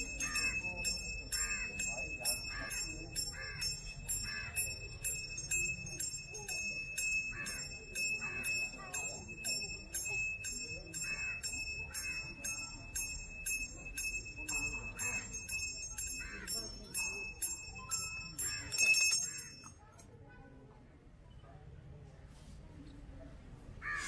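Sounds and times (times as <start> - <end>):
small metal bells jingling: 0.0 - 20.0
crowd voices murmuring: 0.0 - 20.1.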